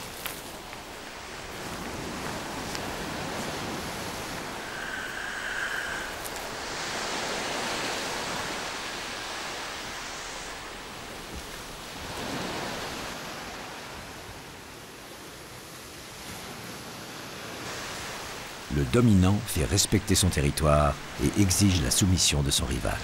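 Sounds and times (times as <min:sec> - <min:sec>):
waves washing on a beach: 0:00.0 - 0:23.0.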